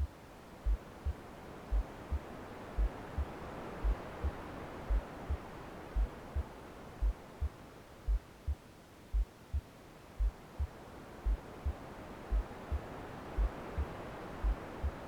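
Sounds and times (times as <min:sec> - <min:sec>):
heartbeat thumps: 0:00.0 - 0:15.0
white noise: 0:00.0 - 0:15.0.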